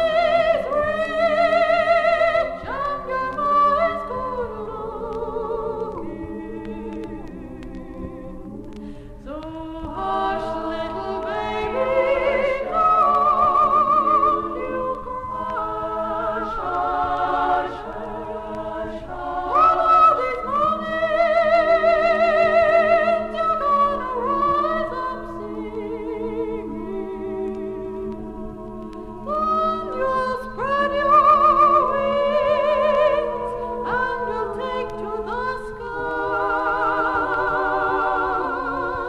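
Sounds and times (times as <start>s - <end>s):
women singing in close harmony: 0.0s - 39.0s.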